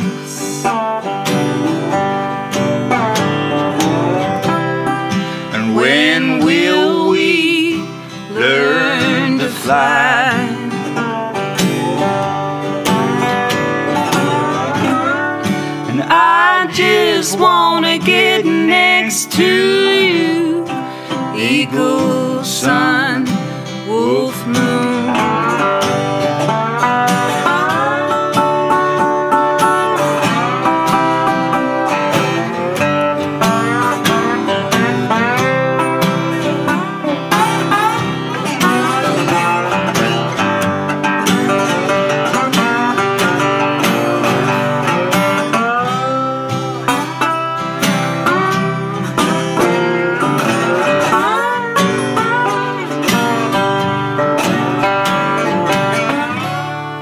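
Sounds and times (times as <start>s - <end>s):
bending slide guitar lead: 0.0s - 57.0s
folk-country guitars playing: 0.0s - 57.0s.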